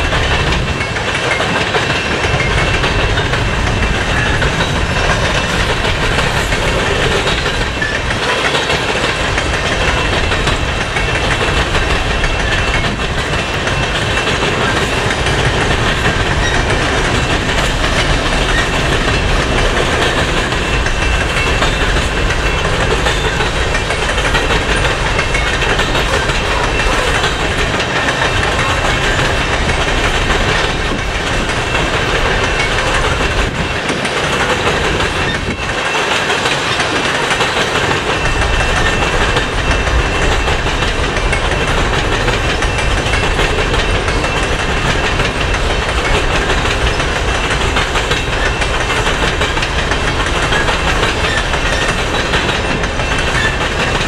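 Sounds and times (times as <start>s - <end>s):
clickety-clack of wheels on rails: 0.0s - 54.0s
train cars rumbling past: 0.0s - 54.0s.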